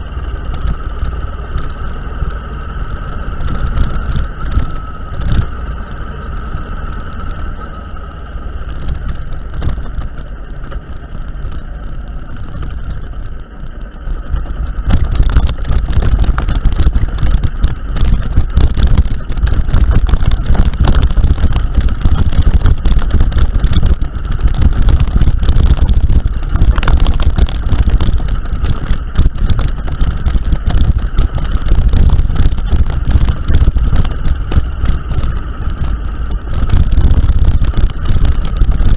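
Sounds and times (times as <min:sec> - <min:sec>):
vehicle road noise: 0:00.0 - 0:38.9
rattles and knocks: 0:00.1 - 0:07.6, 0:08.6 - 0:38.9.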